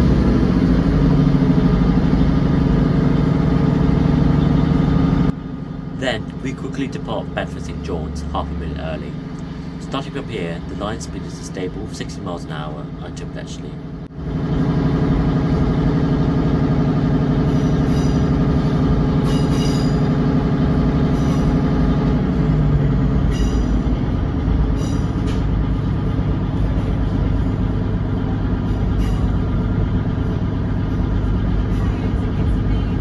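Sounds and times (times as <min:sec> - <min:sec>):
train diesel engine running: 0:00.0 - 0:33.0.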